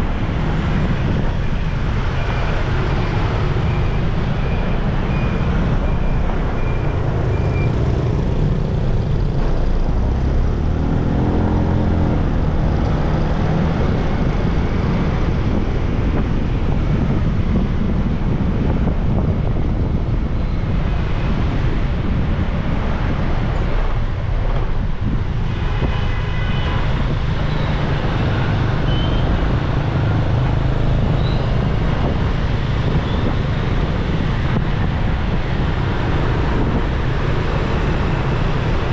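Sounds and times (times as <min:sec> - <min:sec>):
passing vehicles: 0:00.0 - 0:38.9
road and wind noise: 0:00.0 - 0:38.9.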